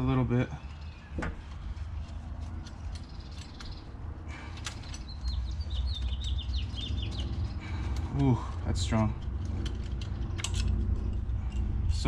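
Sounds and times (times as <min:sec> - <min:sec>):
hand tools and metal clinking: 0:00.7 - 0:12.0.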